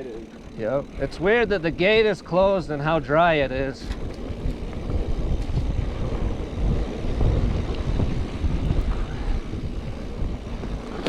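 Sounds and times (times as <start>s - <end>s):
bike rattling on dirt trail: 0.0s - 11.0s
wind buffeting microphone: 0.0s - 11.0s.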